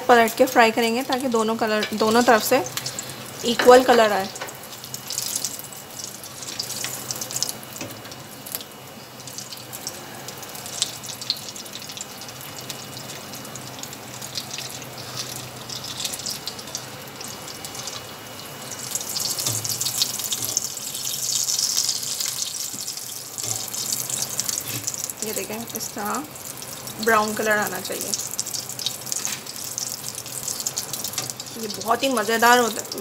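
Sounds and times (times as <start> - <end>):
crackling sizzle of deep-frying: 0.0 - 33.0.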